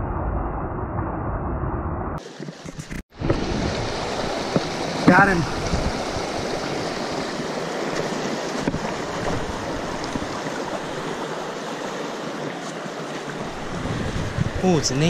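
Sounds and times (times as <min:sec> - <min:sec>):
stream splashing over stones: 0:02.2 - 0:15.0.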